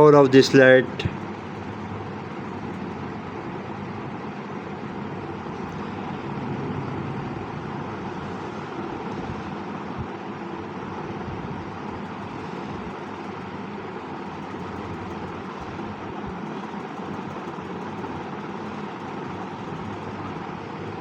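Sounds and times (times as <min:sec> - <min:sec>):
background rumble and hiss: 0:00.0 - 0:21.0.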